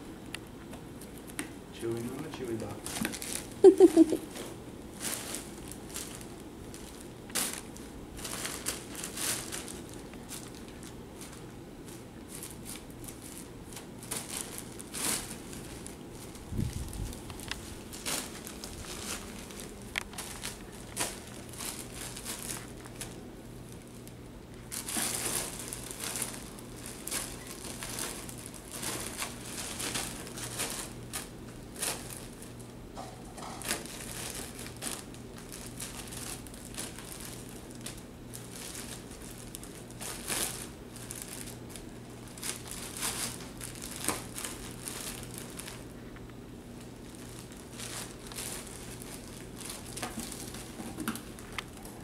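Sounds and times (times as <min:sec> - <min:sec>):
plastic packing crinkling: 0:02.6 - 0:52.0.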